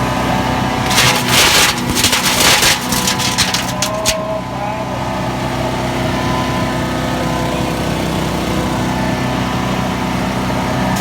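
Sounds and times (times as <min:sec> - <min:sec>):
wood chipper engine running: 0:00.0 - 0:11.0.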